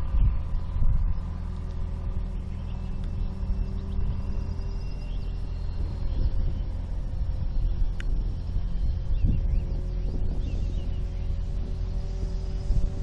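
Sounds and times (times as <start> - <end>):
faint high whine: 0.0 - 13.0
tractor engine rumbling: 0.0 - 13.0.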